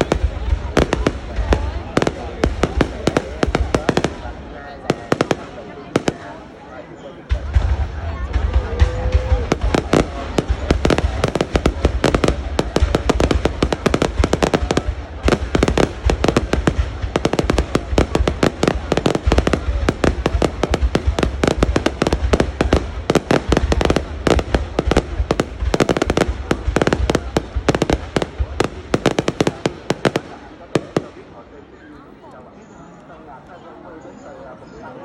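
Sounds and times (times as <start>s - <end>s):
fireworks crackling and banging: 0.0s - 33.1s.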